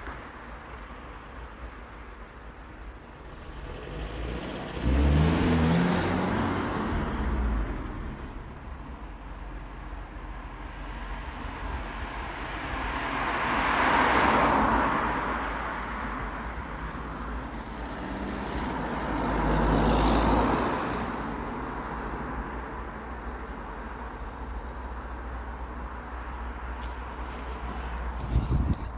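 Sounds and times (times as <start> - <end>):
cars passing by: 0.0 - 28.9
steady road rumble: 0.0 - 28.9.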